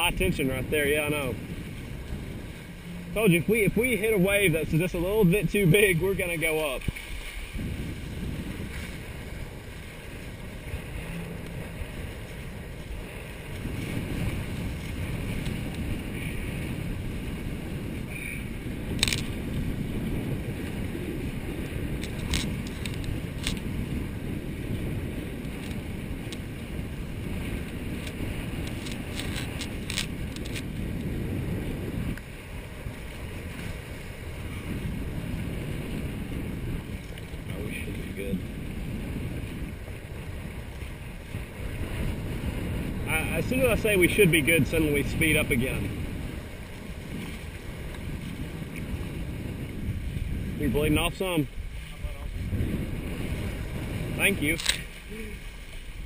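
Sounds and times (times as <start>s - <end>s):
water rushing past hulls: 0.0s - 56.0s
wind buffeting microphone: 0.0s - 56.0s.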